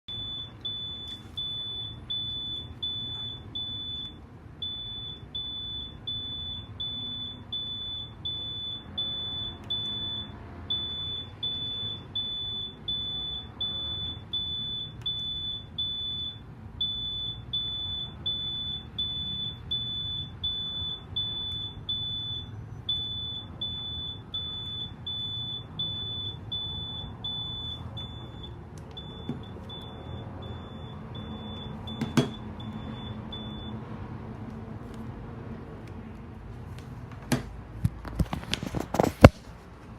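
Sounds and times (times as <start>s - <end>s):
phone speaker high beeps: 0.1s - 33.8s.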